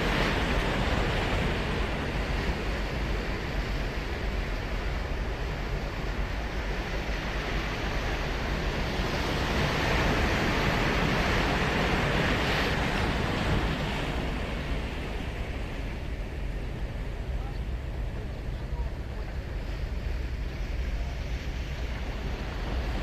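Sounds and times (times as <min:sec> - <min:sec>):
ocean surf breaking: 0:00.0 - 0:23.0.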